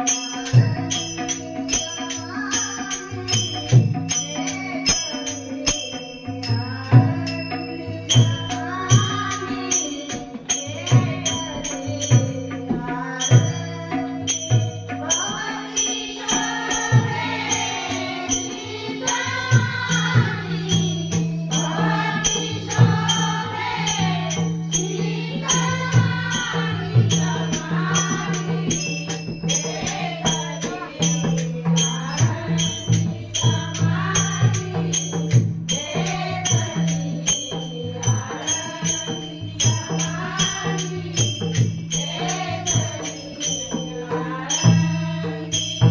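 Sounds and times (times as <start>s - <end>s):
jingling percussion beats: 0.0s - 45.9s
woman singing devotional song: 0.0s - 45.9s.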